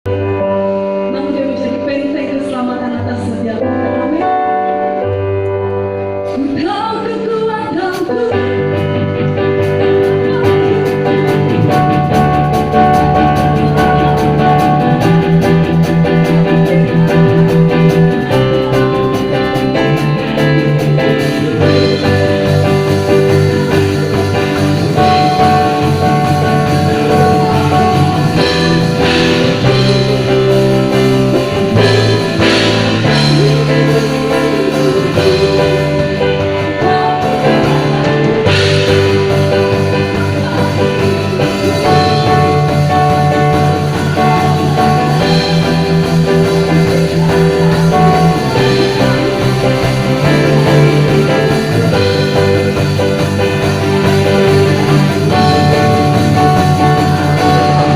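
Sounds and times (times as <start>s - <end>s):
worship band playing chords: 0.0s - 57.9s
cymbal and drum beat: 10.3s - 57.9s.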